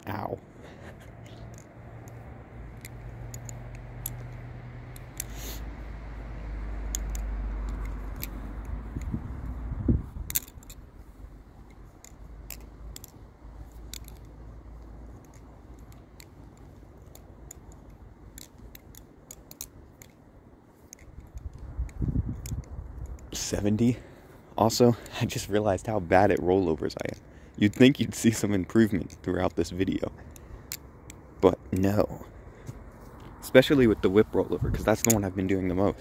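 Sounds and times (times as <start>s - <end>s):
butterfly knife handles clicking: 0.2s - 36.0s.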